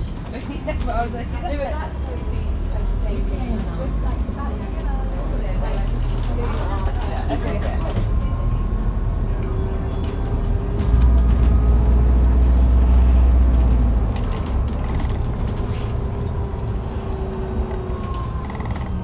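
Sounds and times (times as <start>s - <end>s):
bus drivetrain whine and rumble: 0.0s - 19.0s.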